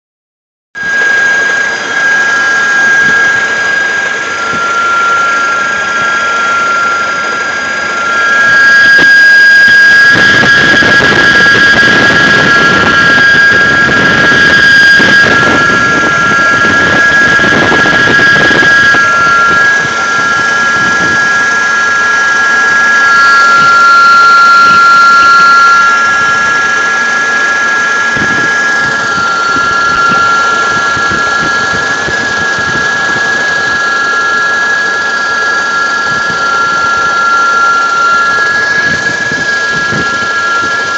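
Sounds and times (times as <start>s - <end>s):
high-pitched two-tone whistle: 0.8s - 40.9s.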